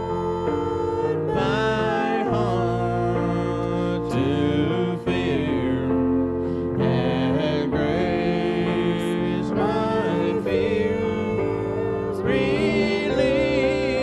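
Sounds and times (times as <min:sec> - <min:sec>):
instruments holding chords: 0:00.0 - 0:14.0
person singing slow melody: 0:00.0 - 0:14.0.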